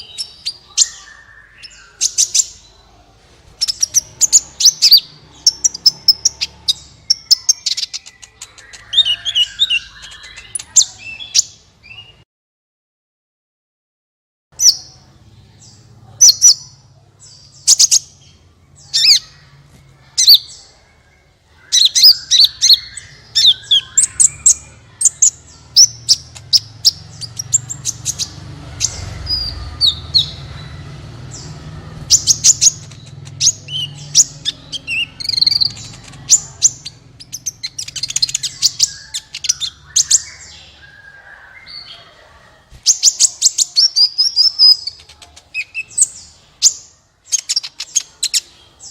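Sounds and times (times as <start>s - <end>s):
bird chirping and trilling: 0.0s - 12.2s, 14.6s - 48.9s.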